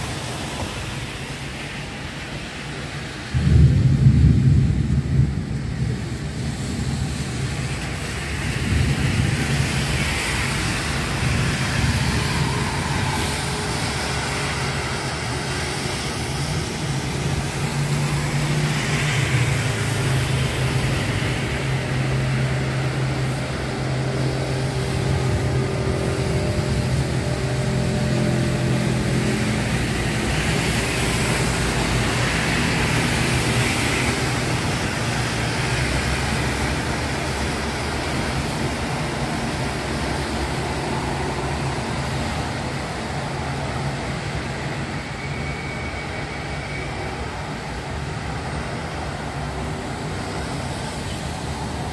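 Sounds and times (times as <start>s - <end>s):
traffic on wet roads: 0.0s - 51.9s.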